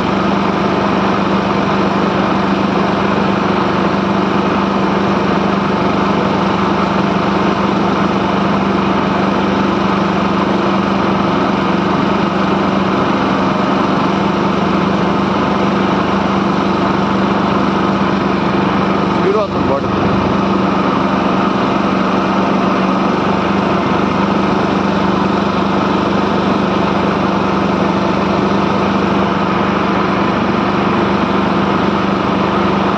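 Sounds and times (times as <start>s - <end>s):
boat motor droning: 0.0s - 32.9s.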